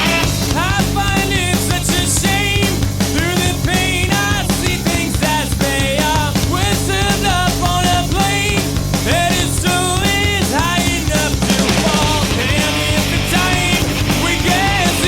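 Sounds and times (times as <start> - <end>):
bass guitar: 0.0 - 15.0
drums: 0.0 - 15.0
person singing: 0.0 - 15.0.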